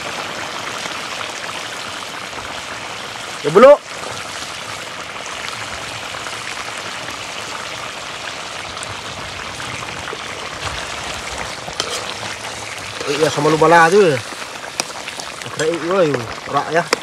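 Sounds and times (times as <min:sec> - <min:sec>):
curry bubbling in a pot: 0:00.0 - 0:17.0.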